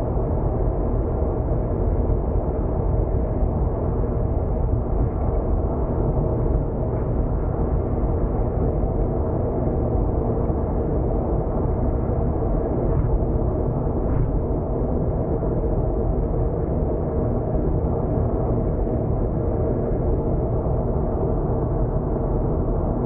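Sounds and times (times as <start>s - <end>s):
car interior road noise: 2.9s - 23.0s.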